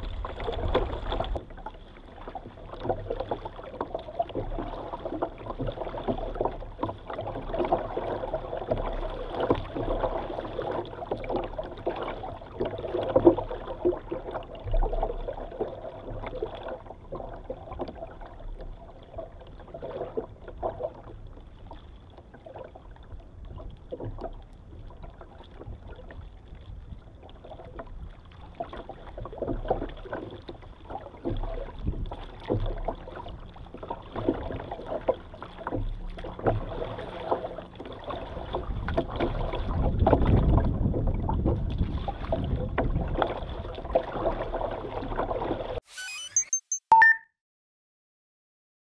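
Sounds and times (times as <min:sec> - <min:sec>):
water splashing against kayak hull: 0:00.0 - 0:45.8.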